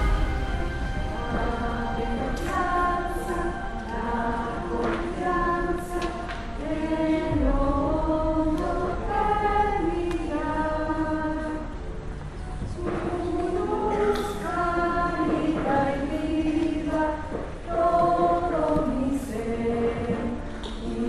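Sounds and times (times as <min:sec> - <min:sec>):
choir singing a slow chant: 0:00.0 - 0:12.0, 0:12.6 - 0:21.0.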